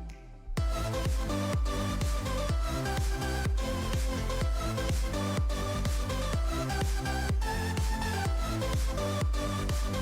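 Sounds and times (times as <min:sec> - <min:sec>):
electronic dance music: 0:00.6 - 0:10.0.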